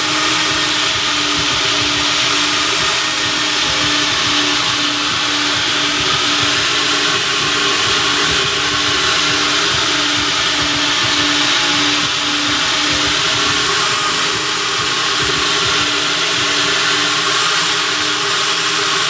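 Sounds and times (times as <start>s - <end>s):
vacuum sucking air through hose: 0.0s - 19.0s
pulsing low hum: 0.2s - 17.1s.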